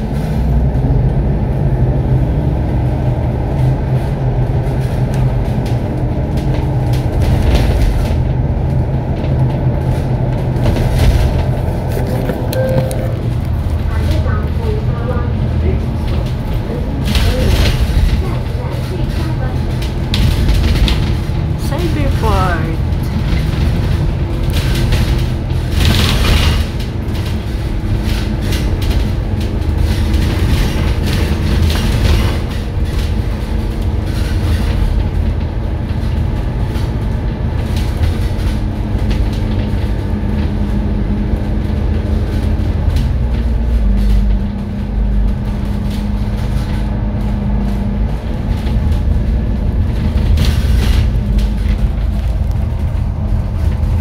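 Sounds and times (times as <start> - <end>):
bus engine hum: 0.0 - 54.0
low road rumble: 0.0 - 54.0.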